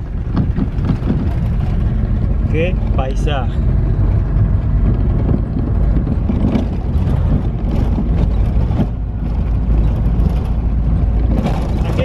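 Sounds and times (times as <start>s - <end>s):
short knocks and rattles: 0.0s - 3.0s, 4.4s - 12.0s
car tyres rumbling on gravel: 0.0s - 12.0s.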